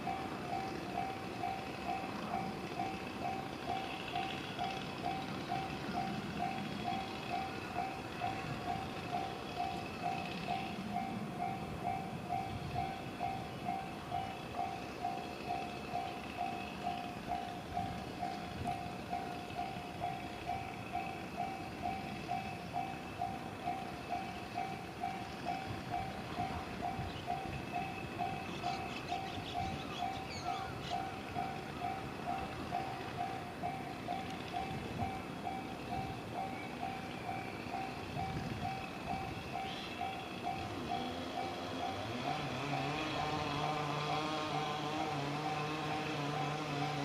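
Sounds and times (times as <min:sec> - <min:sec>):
engine hum approaching: 0:00.0 - 0:47.0
level crossing alarm dinging: 0:00.0 - 0:47.0.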